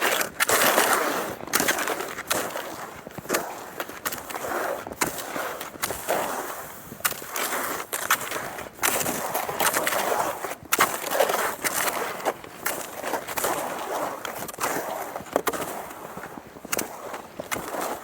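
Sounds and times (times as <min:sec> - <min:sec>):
ski clicks: 0:00.0 - 0:18.0
skis scraping over snow: 0:00.0 - 0:18.0.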